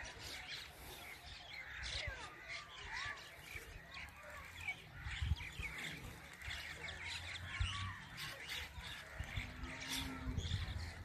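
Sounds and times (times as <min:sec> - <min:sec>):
flock of birds chattering: 0:00.0 - 0:11.0.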